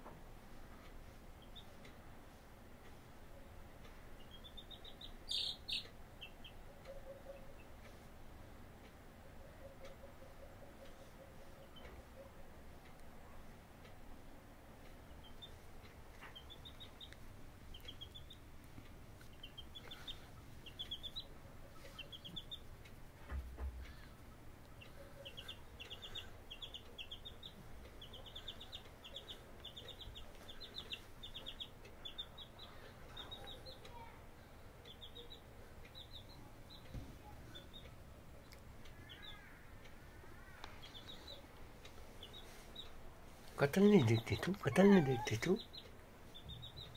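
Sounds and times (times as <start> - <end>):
chick peeping: 1.4 - 2.0, 2.8 - 8.1, 9.2 - 13.0, 14.8 - 34.1, 34.8 - 46.9.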